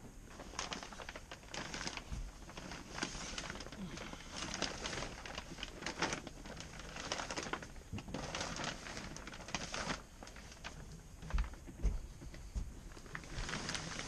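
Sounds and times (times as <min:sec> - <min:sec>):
plastic film rustling and crinkling: 0:00.0 - 0:14.0.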